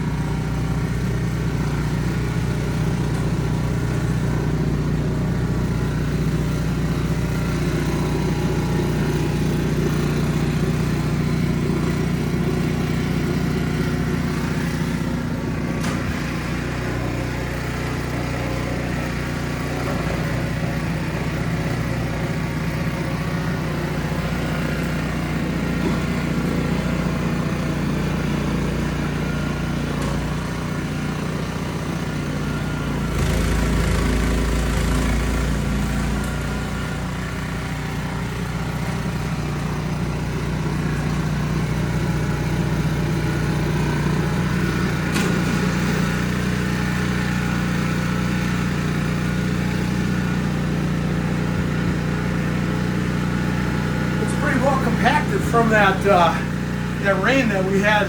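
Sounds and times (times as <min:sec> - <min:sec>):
snow blower engine drone: 0:00.0 - 0:58.0.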